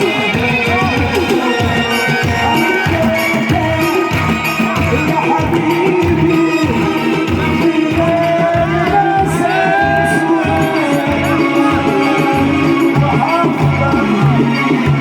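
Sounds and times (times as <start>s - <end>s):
person singing: 0.0s - 15.0s
steady drum beat: 0.0s - 15.0s.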